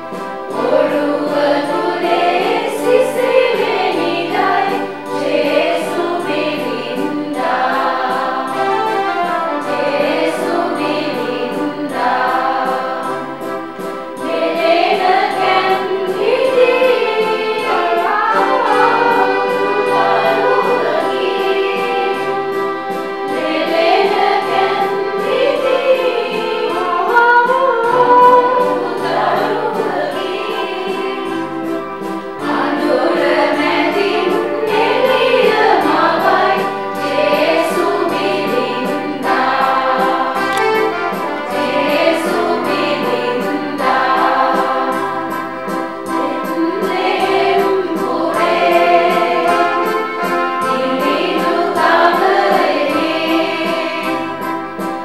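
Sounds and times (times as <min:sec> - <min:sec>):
mixed choir singing a carol: 0:00.0 - 0:55.0.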